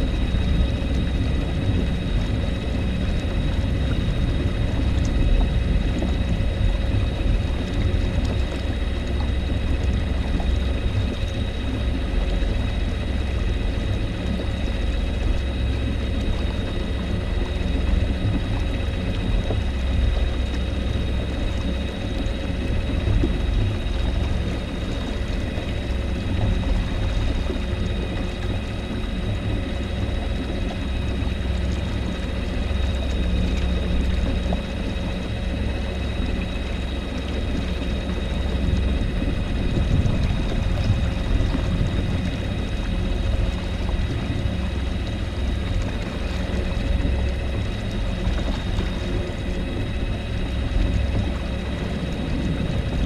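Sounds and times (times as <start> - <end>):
wind and water rumble: 0.0 - 53.0.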